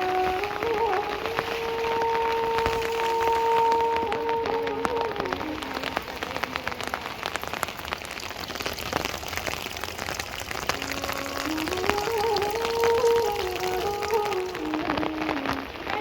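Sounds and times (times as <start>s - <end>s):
raindrops striking close by: 0.0s - 16.0s
steady hiss of rain: 0.0s - 16.0s.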